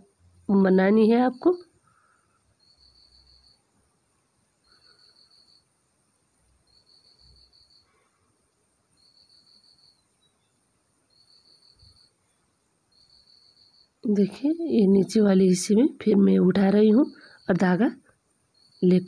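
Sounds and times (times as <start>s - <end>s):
faint cricket chirping: 0.0s - 19.0s.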